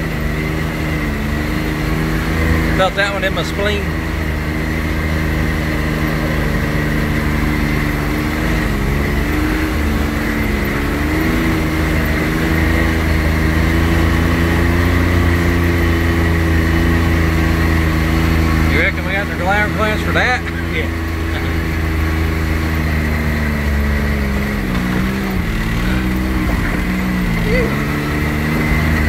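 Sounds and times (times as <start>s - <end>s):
off-road vehicle engine running: 0.0s - 29.0s.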